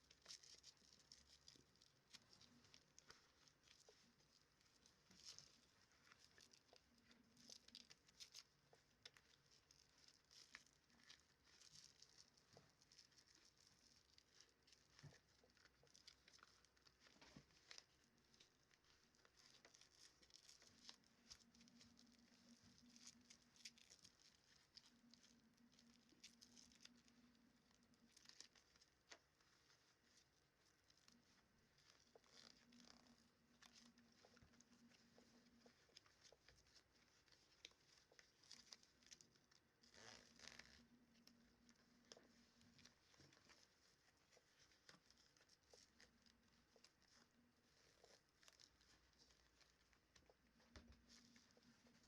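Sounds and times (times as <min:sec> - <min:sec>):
faint light ticks and rustles: 0:00.0 - 0:52.0
faint low hum: 0:00.0 - 0:52.0.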